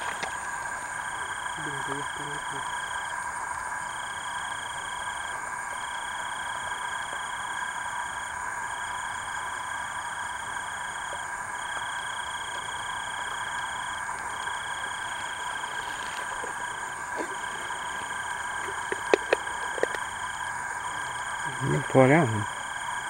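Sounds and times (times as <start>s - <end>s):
frogs calling: 0.0s - 23.0s
insects trilling: 0.0s - 23.0s.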